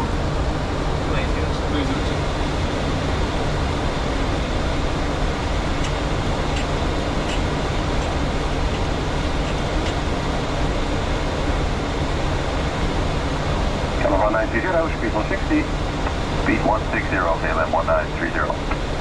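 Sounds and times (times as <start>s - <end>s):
airflow and engine noise: 0.0s - 19.0s.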